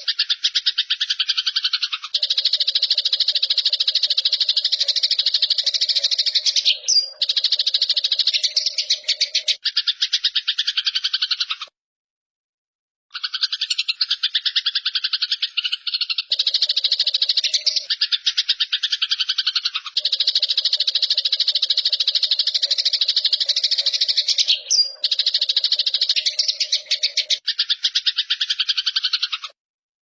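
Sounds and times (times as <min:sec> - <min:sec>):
sparrows chattering: 0:00.0 - 0:11.7, 0:13.1 - 0:29.6.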